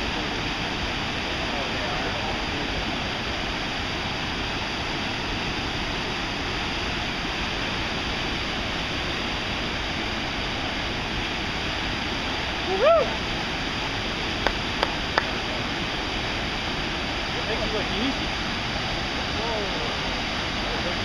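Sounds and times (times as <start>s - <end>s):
whitewater rushing over rocks: 0.0s - 21.0s.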